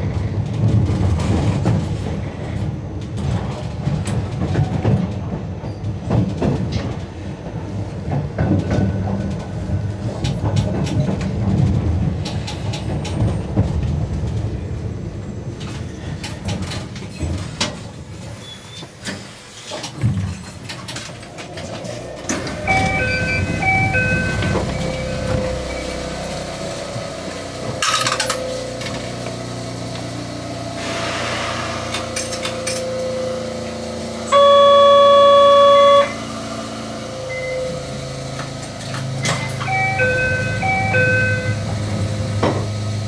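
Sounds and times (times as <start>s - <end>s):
train running: 0.0s - 43.0s.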